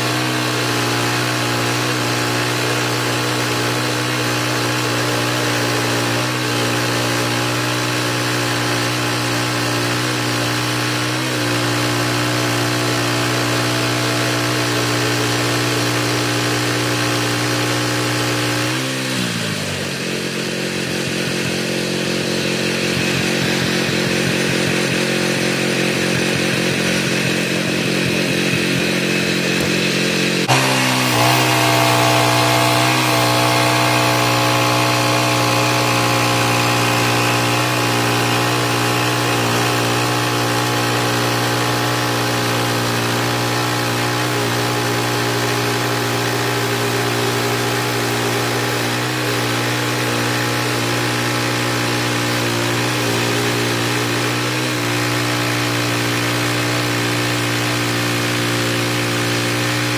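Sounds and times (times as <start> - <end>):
sawmill engine running and revving: 0.0 - 59.9.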